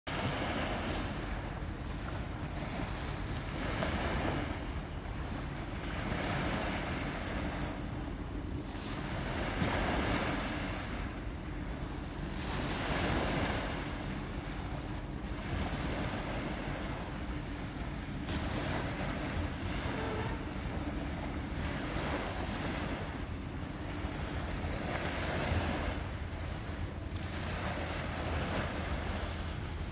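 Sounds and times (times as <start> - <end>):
small waves washing ashore: 0.1 - 29.9
wind rumbling on microphone: 0.1 - 29.9.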